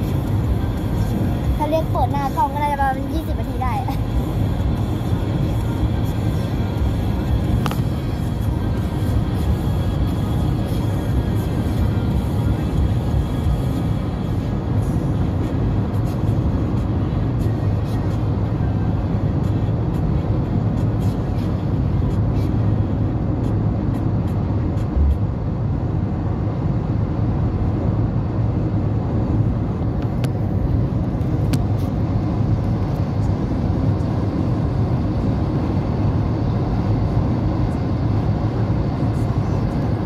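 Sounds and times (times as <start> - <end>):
road and engine rumble: 0.0 - 40.0.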